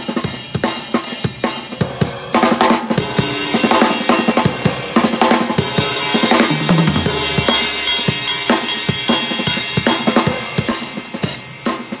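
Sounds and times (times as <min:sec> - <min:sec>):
drum kit played fast: 0:00.0 - 0:12.0.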